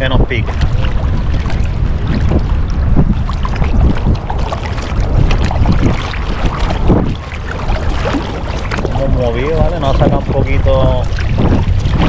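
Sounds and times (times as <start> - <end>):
water lapping against float: 0.0 - 12.0
wind buffeting microphone: 0.0 - 12.0.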